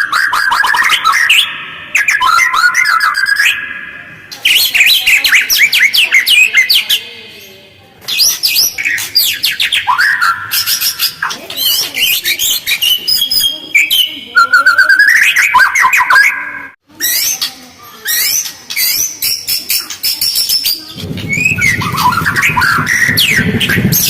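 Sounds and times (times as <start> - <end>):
bird singing chattering song: 0.0 - 7.4, 8.0 - 24.0.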